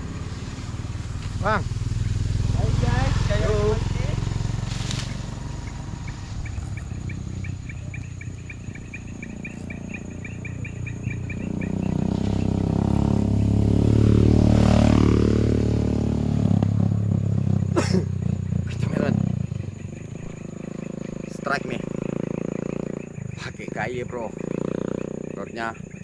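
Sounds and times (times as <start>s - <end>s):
vehicle driving past: 0.0s - 23.5s.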